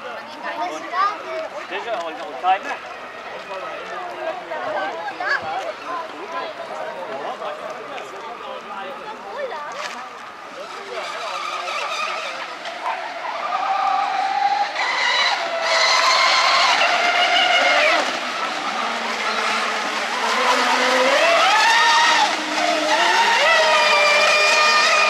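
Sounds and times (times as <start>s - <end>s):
model speedboat motors whining: 0.0s - 25.0s.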